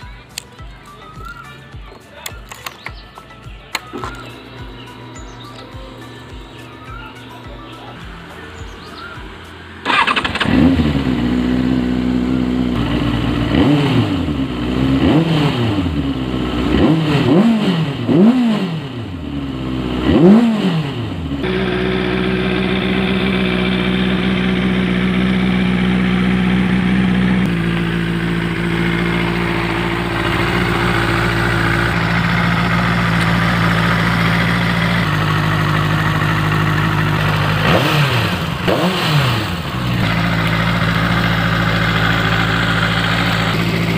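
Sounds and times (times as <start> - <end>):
motorcycle engine revving and idling: 0.0 - 43.9.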